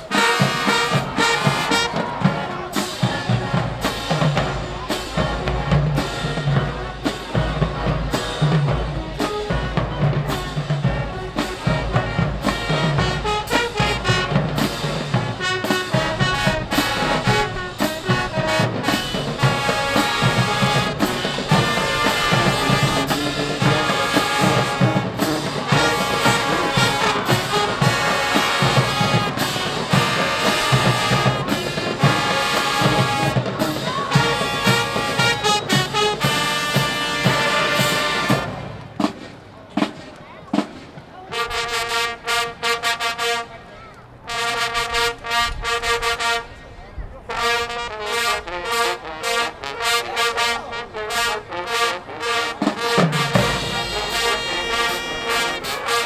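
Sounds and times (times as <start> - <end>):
brass horns holding chords: 0.0 - 38.8, 47.3 - 56.0
drums: 0.0 - 46.4, 47.4 - 56.0
marching band playing: 0.0 - 46.6, 47.3 - 56.0.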